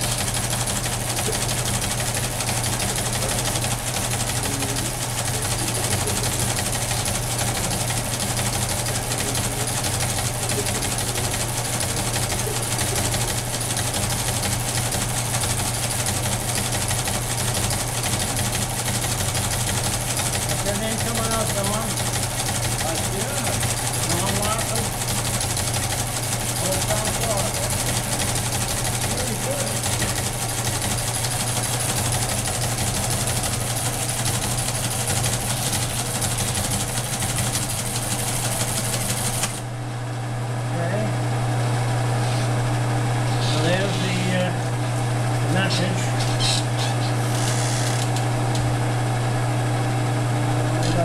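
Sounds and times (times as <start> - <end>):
rapid mechanical clatter: 0.0 - 39.6, 46.4 - 48.3
electric motors humming: 0.0 - 51.0.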